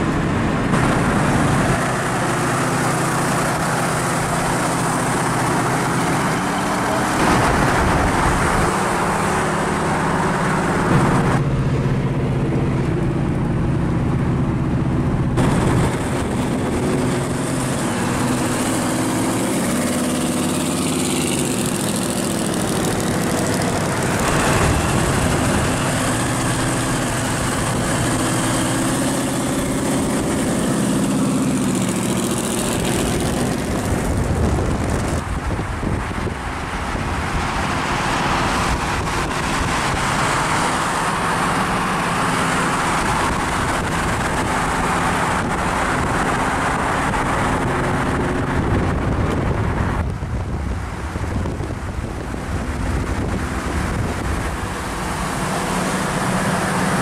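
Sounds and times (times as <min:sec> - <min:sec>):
car engines running: 0:00.0 - 0:57.0
road and wind noise: 0:00.0 - 0:57.0.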